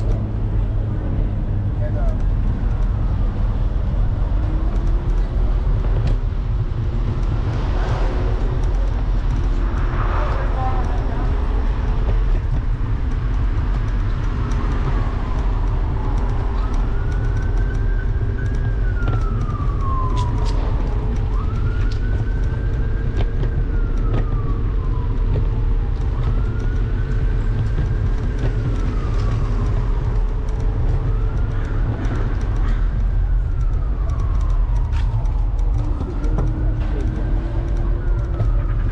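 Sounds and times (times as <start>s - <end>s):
emergency vehicle siren wailing: 0.0s - 38.9s
wind and ride noise rumble: 0.0s - 38.9s.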